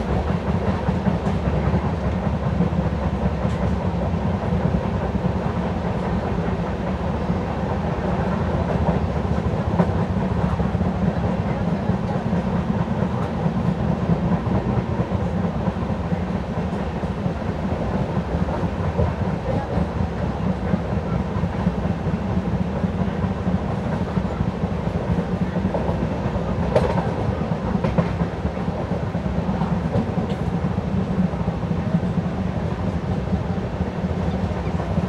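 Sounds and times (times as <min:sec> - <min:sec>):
rail joint clicks: 0:00.0 - 0:35.0
train wheels rumbling: 0:00.0 - 0:35.0.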